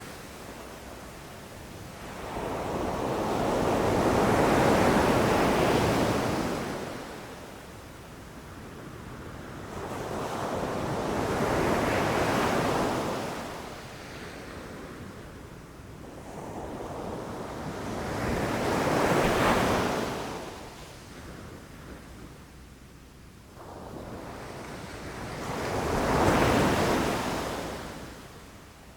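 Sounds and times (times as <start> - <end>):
ocean waves breaking on shore: 0.0 - 7.7, 8.3 - 22.4, 23.6 - 28.9.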